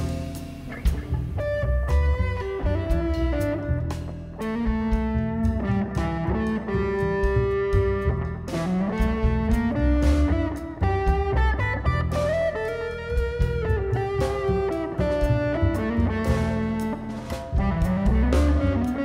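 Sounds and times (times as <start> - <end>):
bass and drums: 0.0 - 19.0
guitar melody: 0.0 - 19.0.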